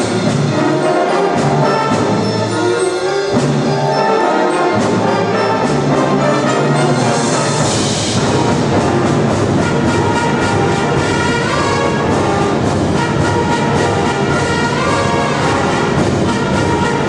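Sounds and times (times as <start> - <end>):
wind band playing: 0.0 - 17.0.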